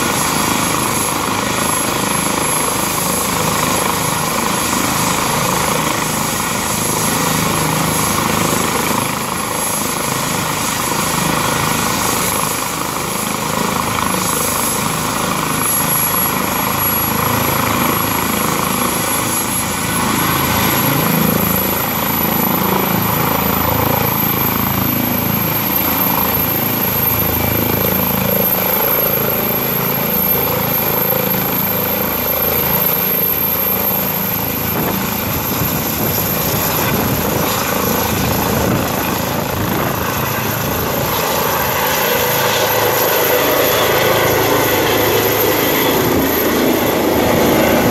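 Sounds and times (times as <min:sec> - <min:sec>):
helicopter turbines and rotor: 0:00.0 - 0:47.9
high turbine whine: 0:00.0 - 0:47.9.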